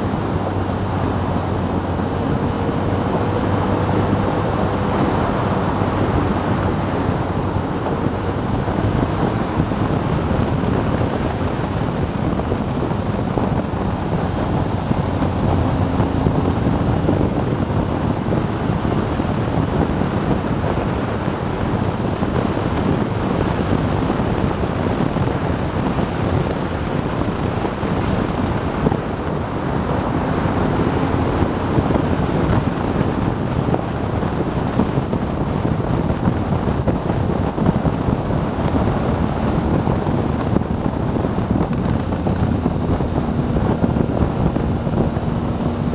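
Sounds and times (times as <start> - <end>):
motorcycle engine: 0.0 - 45.9
wind rushing over microphone: 0.0 - 45.9.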